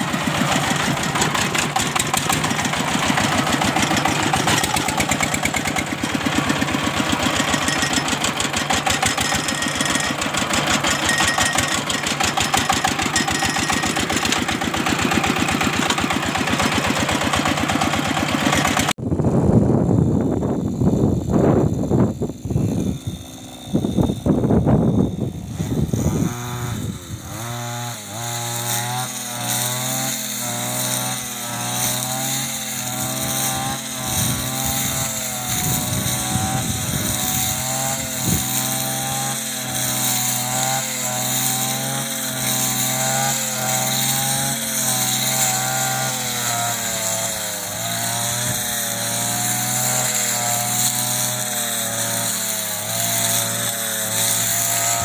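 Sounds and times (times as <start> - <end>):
brush cutter cutting grass: 0.0 - 55.0.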